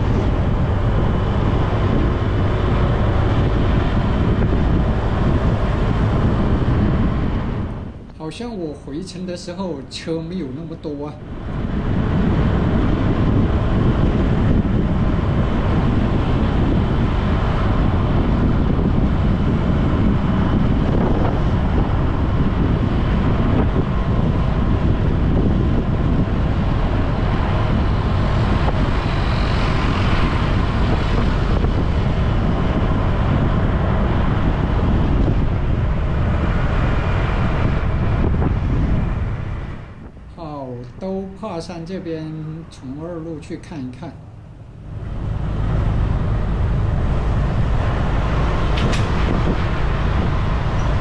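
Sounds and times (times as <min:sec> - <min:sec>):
engine and road noise: 0:00.0 - 0:51.0
wind buffeting microphone: 0:00.0 - 0:51.0.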